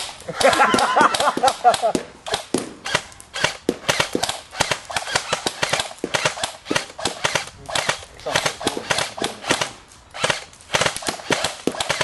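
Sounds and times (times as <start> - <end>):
airsoft gun shots: 0.0 - 12.0.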